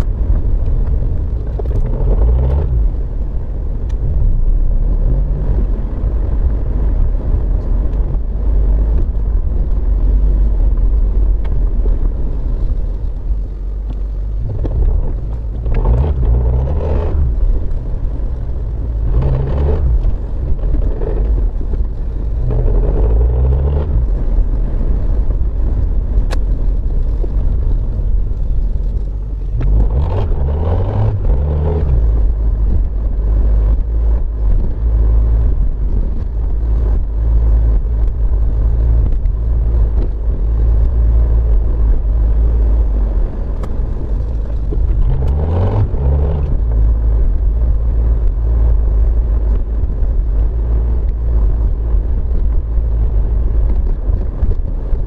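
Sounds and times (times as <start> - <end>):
car engine accelerating: 0.0 - 55.0
road noise inside car: 0.0 - 55.0.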